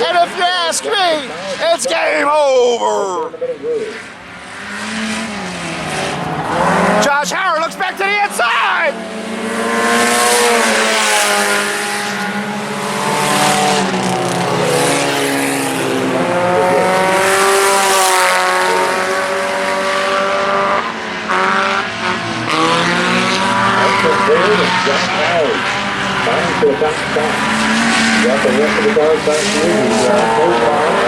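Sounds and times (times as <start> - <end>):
race car engines revving: 0.0 - 31.0.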